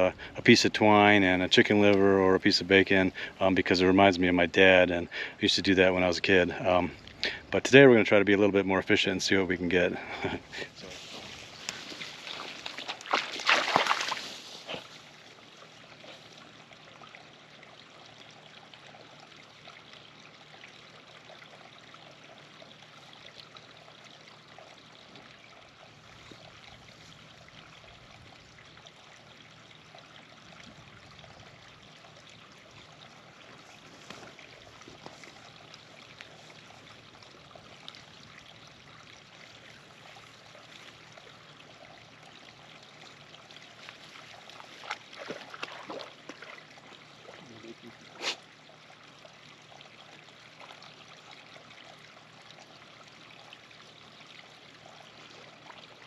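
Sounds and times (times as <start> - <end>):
creek trickling: 0.0 - 56.0.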